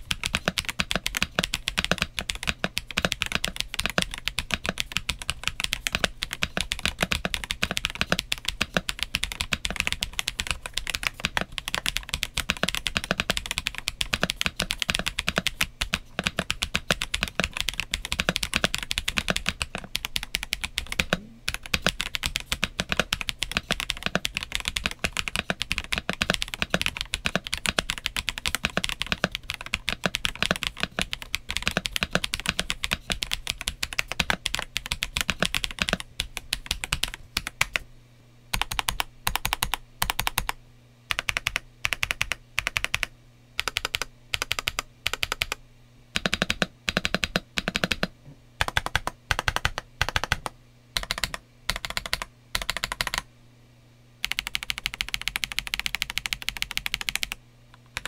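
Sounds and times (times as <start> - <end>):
fast mechanical keyboard typing: 0.0 - 37.8, 38.5 - 45.6, 46.2 - 53.3, 54.2 - 58.0.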